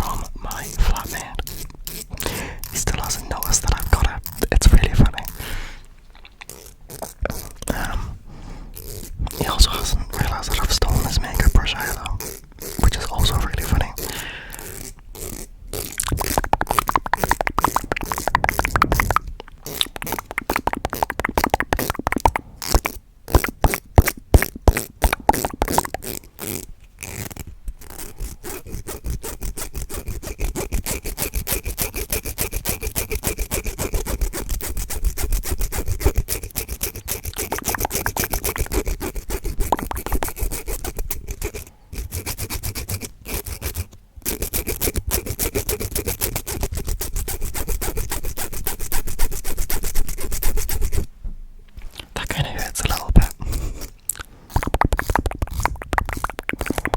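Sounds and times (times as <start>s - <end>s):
rapid scratching and rubbing: 0.0s - 5.4s, 6.0s - 51.1s, 52.0s - 56.9s.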